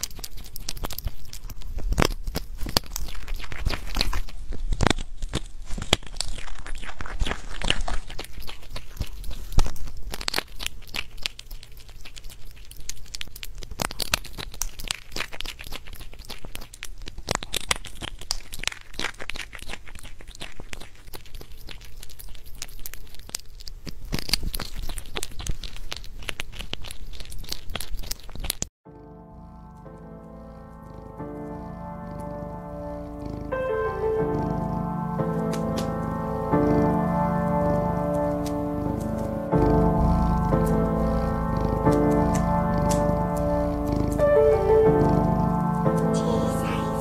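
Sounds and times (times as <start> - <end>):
small animal chewing food: 0.0 - 47.0.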